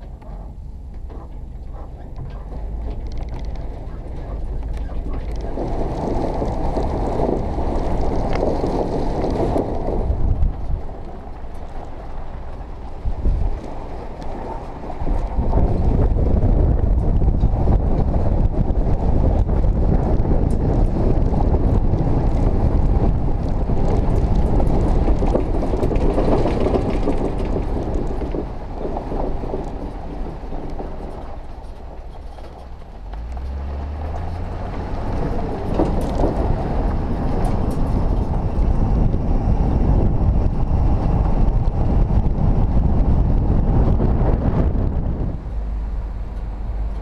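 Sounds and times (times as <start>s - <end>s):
vehicle engine rumbling: 0.0s - 47.0s
vehicle rattle: 0.0s - 47.0s.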